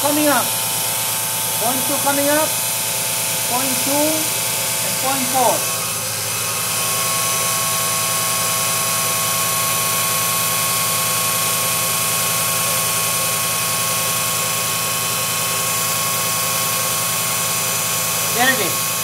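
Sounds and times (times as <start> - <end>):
air compressor humming: 0.0 - 19.0.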